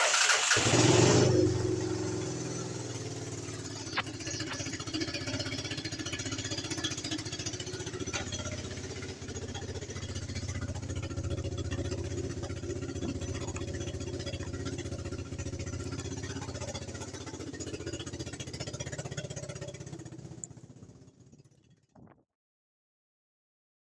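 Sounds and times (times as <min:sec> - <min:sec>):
quad bike engine idling: 0:00.0 - 0:21.9.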